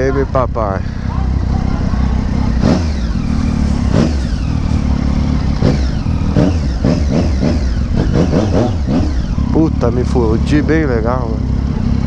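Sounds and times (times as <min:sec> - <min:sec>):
motorcycle engine throttle blips: 0:00.0 - 0:12.0
steady low rumble: 0:00.0 - 0:12.0.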